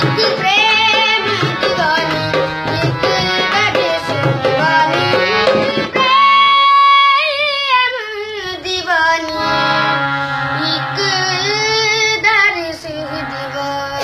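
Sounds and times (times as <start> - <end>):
boy singing: 0.0 - 14.0.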